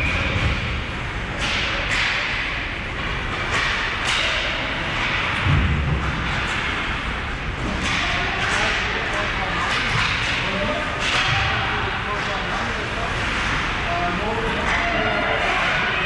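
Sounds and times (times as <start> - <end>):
hockey sticks and puck clacking: 0.0 - 16.0.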